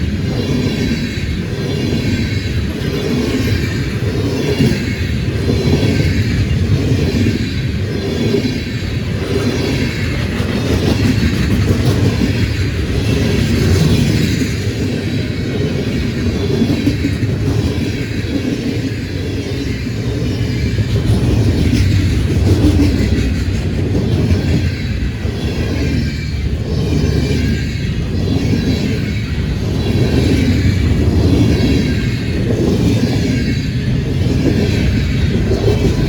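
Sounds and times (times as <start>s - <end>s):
freight train rumbling past: 0.0s - 36.0s
wheels clicking over rail joints: 0.0s - 36.0s.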